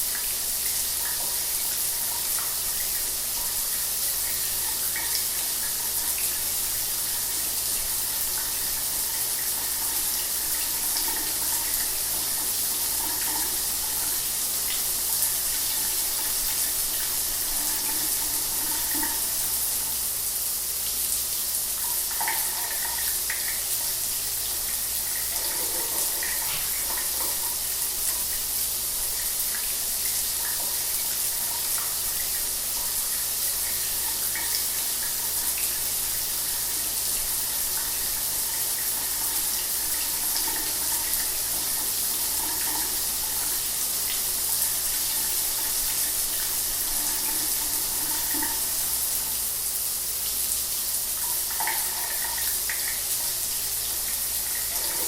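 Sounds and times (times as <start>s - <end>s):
shower water running: 0.0s - 55.0s.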